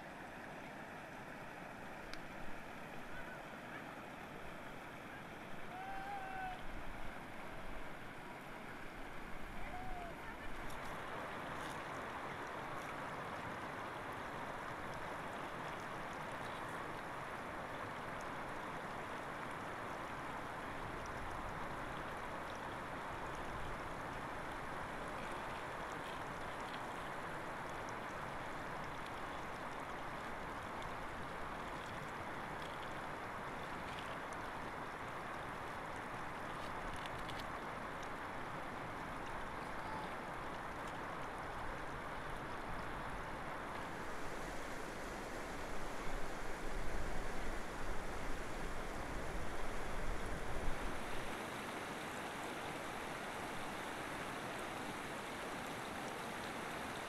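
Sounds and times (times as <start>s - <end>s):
river rushing over stones: 0.0s - 57.0s.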